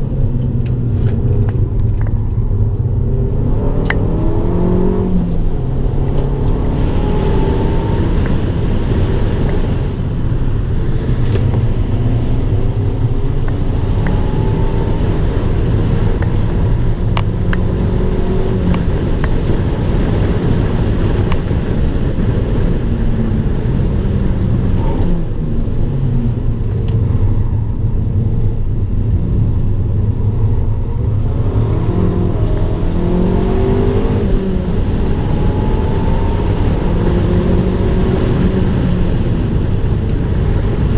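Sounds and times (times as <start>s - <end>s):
car engine accelerating hard: 0.0s - 40.9s
low rumble: 0.0s - 40.9s.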